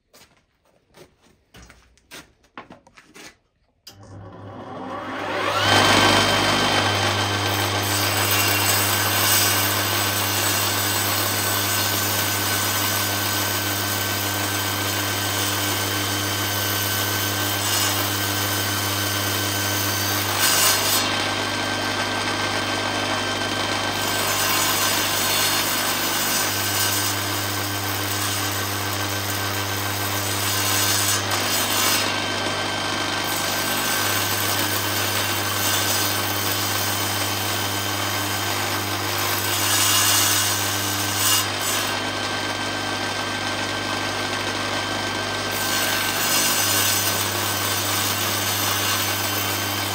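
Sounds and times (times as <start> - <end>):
blade cutting wood: 3.1 - 49.9
table saw running: 3.9 - 49.9.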